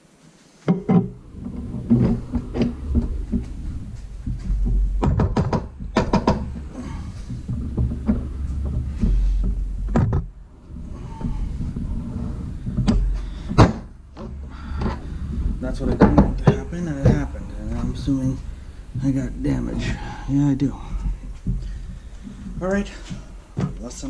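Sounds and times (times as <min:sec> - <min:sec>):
metal clanks and knocks: 0:00.6 - 0:24.0.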